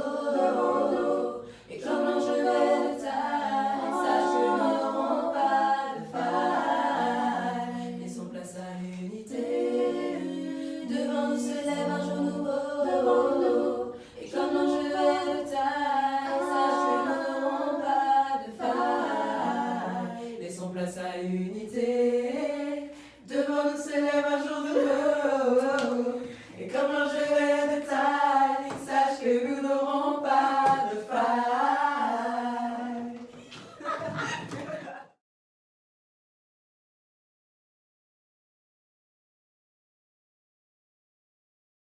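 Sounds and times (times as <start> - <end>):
a cappella group singing hymn: 0.0 - 34.2.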